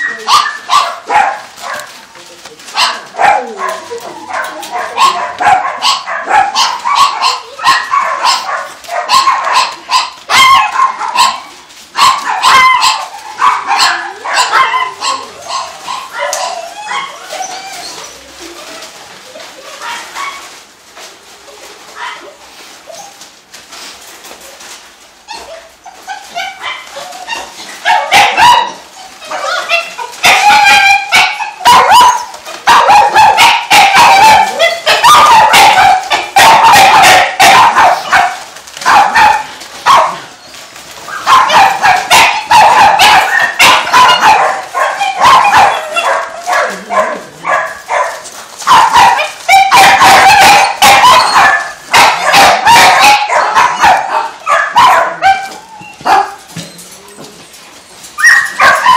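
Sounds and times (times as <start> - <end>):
dogs barking and yipping: 0.0 - 20.7, 24.6 - 58.9.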